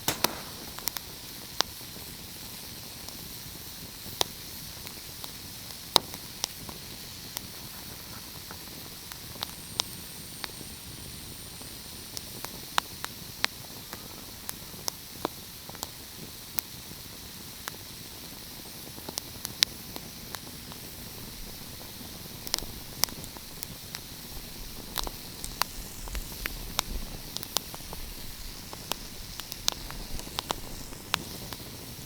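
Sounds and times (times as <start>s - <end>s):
fire crackling and popping: 0.0s - 10.6s, 12.0s - 32.0s.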